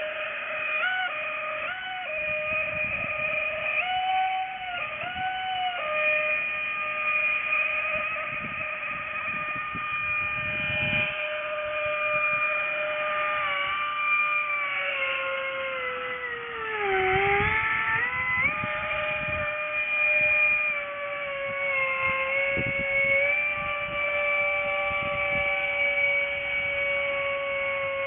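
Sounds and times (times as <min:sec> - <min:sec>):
small electric motor whining: 0:00.0 - 0:28.0.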